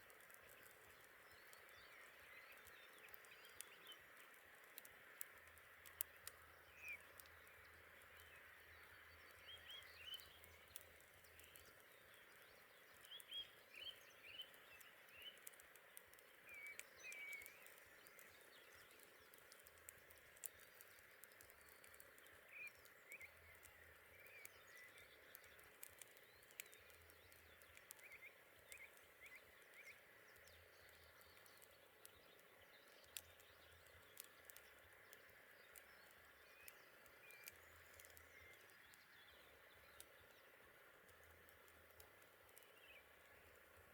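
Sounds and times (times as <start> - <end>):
campfire crackling and popping: 0.0 - 43.9
soft steady hiss: 0.0 - 43.9.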